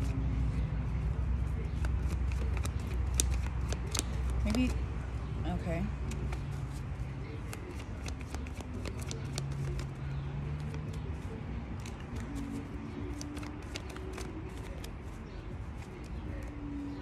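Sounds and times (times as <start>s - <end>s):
cards being shuffled: 1.4s - 4.8s, 6.0s - 16.9s.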